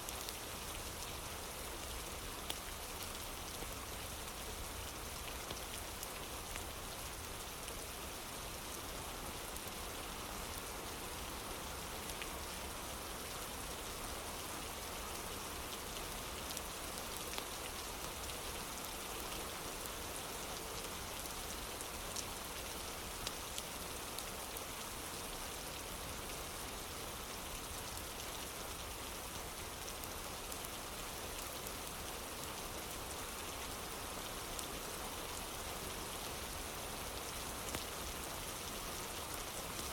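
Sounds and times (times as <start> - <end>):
rain on wooden porch: 0.1 - 39.9.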